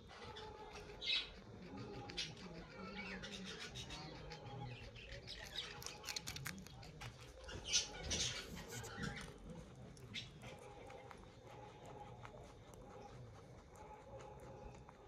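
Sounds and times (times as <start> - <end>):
guinea pig chewing crunchy pod: 0.0 - 15.0.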